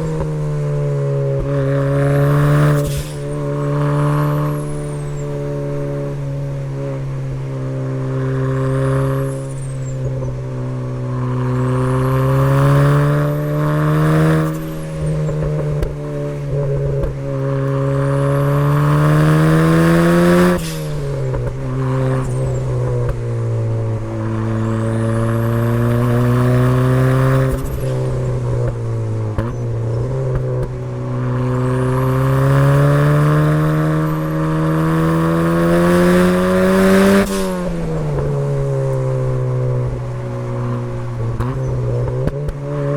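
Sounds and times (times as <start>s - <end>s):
car engine revving under load: 0.0s - 42.9s.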